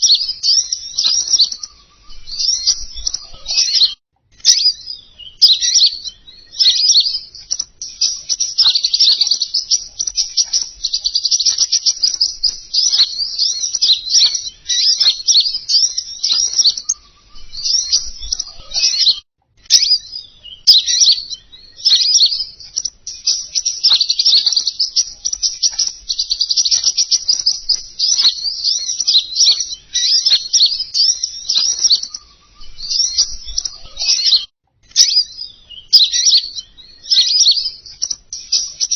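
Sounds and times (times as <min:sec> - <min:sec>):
songbird chirping and twittering: 0:00.0 - 0:38.9.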